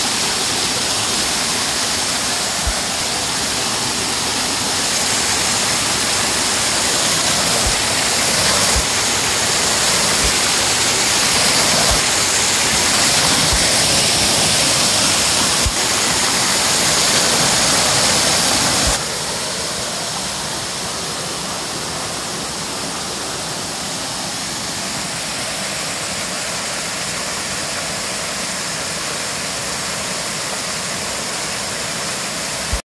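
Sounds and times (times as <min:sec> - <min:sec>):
waterfall rushing into pool: 0:00.0 - 0:32.8.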